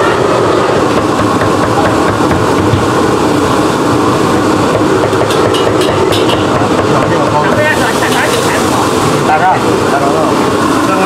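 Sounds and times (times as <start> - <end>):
loud steady background din: 0.0 - 11.0.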